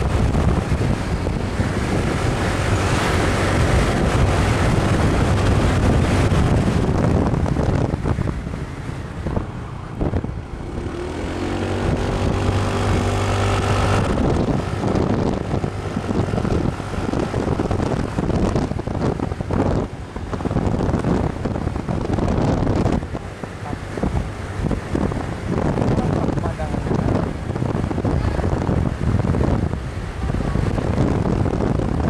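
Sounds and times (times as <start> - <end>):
engine drone: 0.0 - 32.0
road noise: 0.0 - 32.0
wind buffeting microphone: 0.0 - 32.0.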